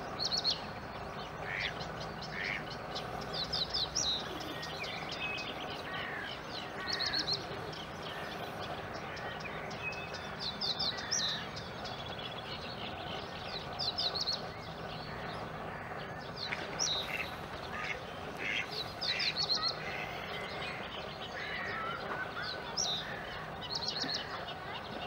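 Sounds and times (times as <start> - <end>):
bird chicks peeping: 0.0 - 25.0
steady background noise: 0.0 - 25.0.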